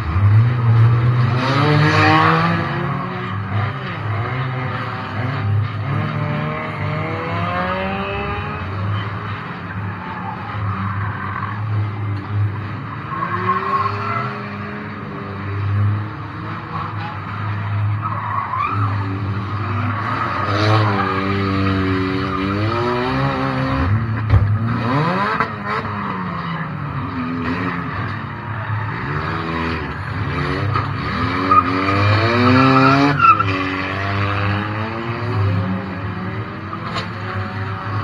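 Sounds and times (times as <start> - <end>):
racing car engine revving: 0.0 - 38.0.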